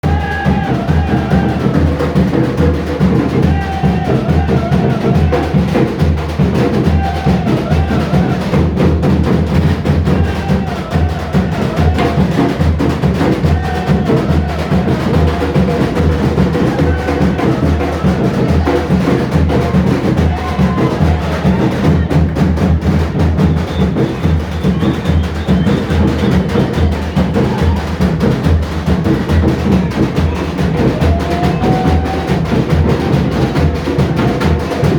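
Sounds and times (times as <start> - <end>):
samba drum ensemble: 0.0 - 34.9.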